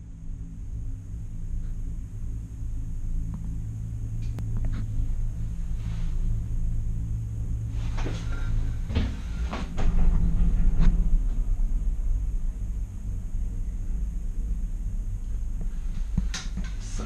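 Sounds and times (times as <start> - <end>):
gondola cabin rumble and hum: 0.0 - 17.0.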